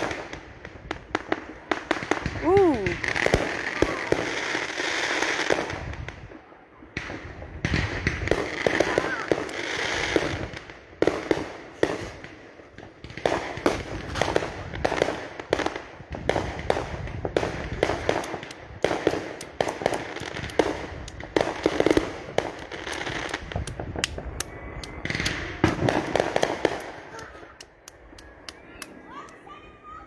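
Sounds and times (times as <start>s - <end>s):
fireworks cracking and banging: 0.0s - 30.0s.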